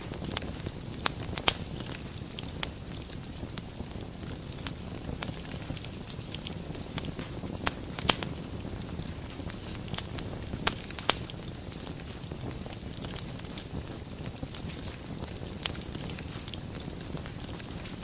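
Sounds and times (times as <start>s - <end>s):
burning wood popping: 0.0s - 18.0s
fire crackling: 0.0s - 18.0s.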